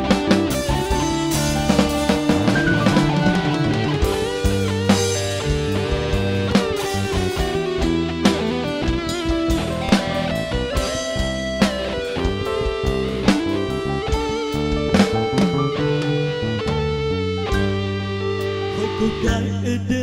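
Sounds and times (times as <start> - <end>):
guitar lead melody: 0.0 - 19.6
drum kit: 0.0 - 19.7
electric bass: 0.0 - 20.0
keyboard: 0.0 - 20.0
drum hits: 0.1 - 17.0.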